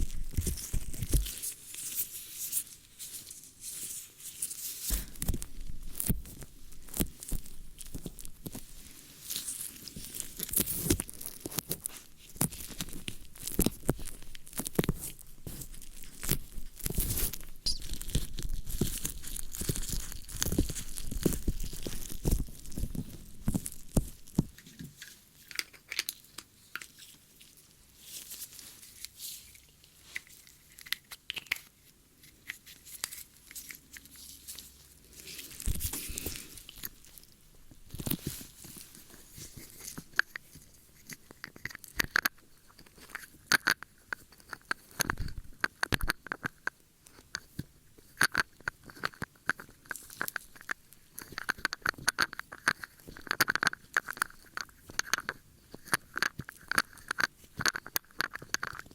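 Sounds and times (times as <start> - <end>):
crackles and scratches on microphone: 0.0 - 26.0, 26.6 - 58.9.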